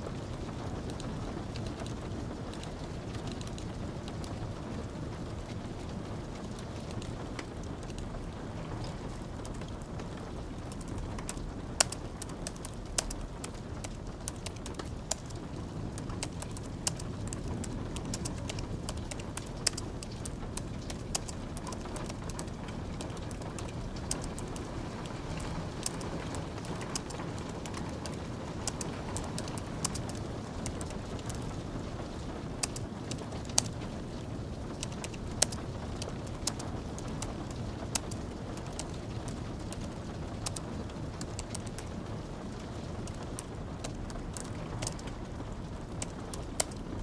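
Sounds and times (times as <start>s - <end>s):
light rain: 0.0s - 47.0s.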